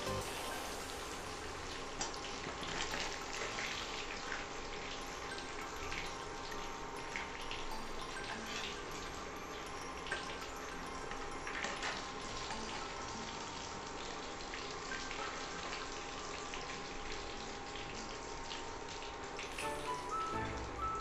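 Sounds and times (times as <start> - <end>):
fish frying in hot oil: 0.0 - 21.0.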